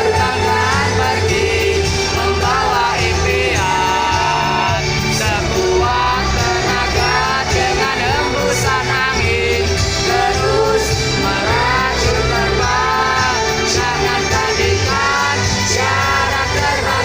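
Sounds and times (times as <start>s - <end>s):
female singers singing together: 0.0s - 17.0s
pop band backing track with bass: 0.0s - 17.0s.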